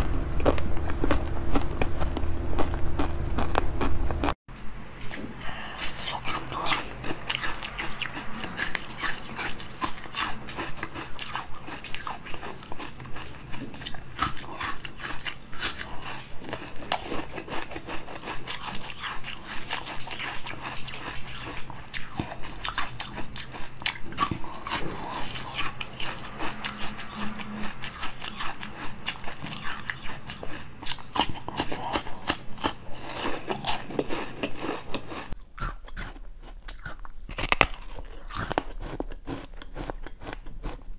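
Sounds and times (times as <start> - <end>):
crunchy chewing: 0.4 - 4.4, 5.0 - 40.9.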